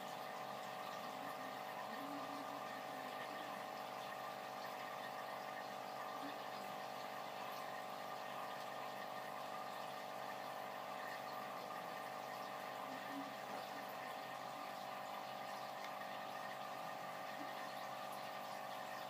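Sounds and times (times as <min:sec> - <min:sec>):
small pump humming: 0:00.0 - 0:19.0.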